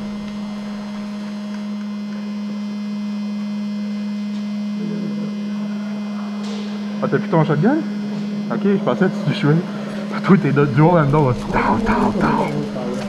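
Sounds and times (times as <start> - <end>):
small fan buzzing: 0.0 - 13.0.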